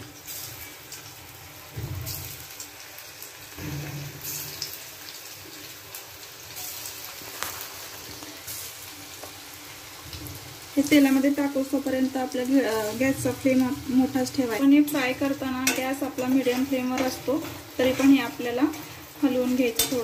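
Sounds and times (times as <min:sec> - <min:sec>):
oil sizzling and crackling: 0:00.0 - 0:20.0.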